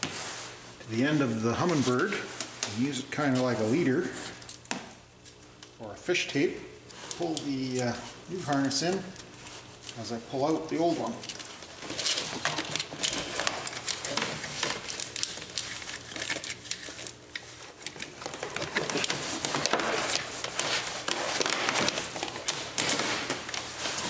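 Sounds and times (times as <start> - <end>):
cable rustling and scraping on plastic: 0.0 - 4.5, 6.9 - 24.0.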